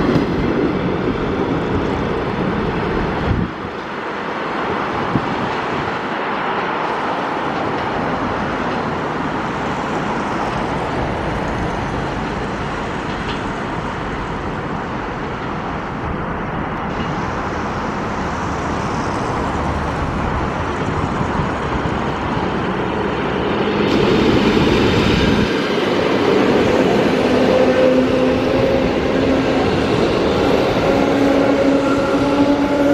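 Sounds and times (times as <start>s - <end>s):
electric train rumbling: 0.0s - 32.9s.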